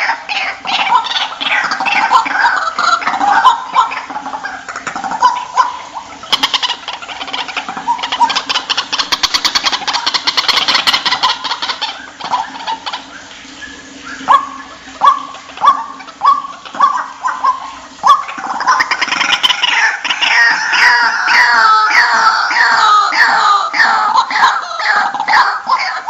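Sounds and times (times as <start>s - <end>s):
waterhens calling: 0.0s - 26.0s.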